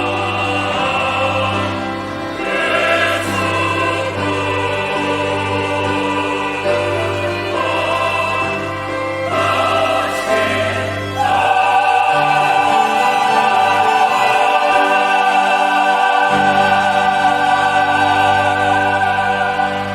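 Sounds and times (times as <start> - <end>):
choir singing: 0.0 - 19.9
organ and piano accompaniment: 0.0 - 19.9.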